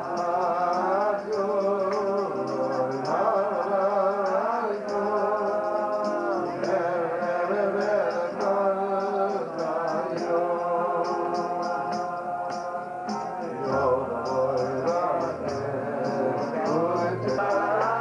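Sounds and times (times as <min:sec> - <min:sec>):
man singing: 0:00.0 - 0:18.0.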